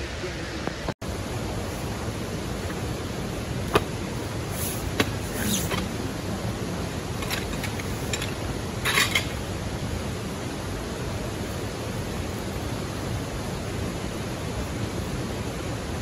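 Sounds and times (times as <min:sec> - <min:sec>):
rushing background noise: 0:00.0 - 0:16.0.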